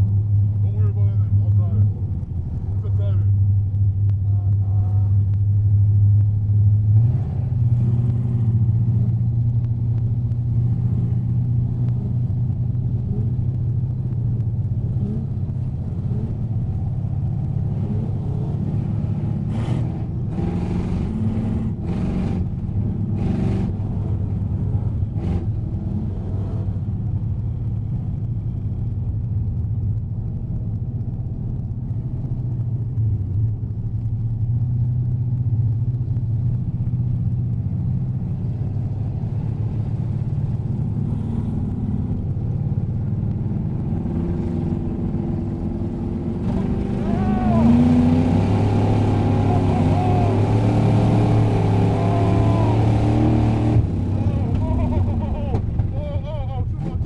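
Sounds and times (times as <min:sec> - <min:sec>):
race car engine from cabin: 0:00.0 - 0:57.0.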